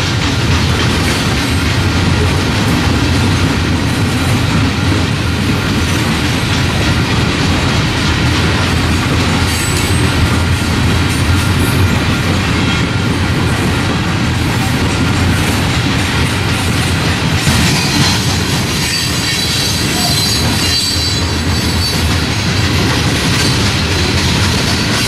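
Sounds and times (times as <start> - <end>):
train wheels on rail: 0.0 - 25.0.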